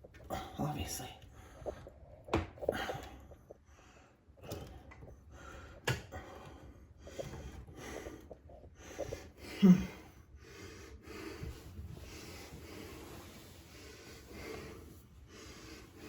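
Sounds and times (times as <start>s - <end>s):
person breathing hard: 2.6s - 16.0s.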